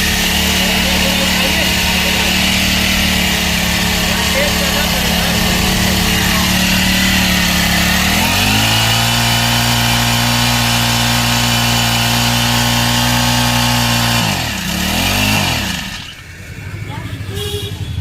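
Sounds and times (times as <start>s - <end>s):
petrol engine running: 0.0s - 18.0s.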